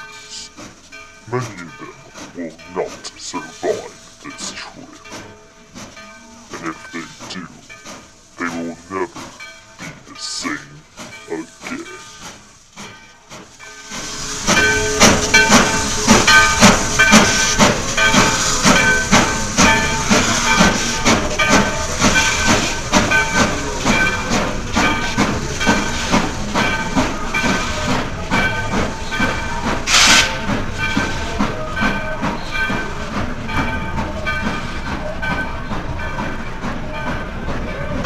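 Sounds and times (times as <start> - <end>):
steam train chuffing: 0.0 - 38.0.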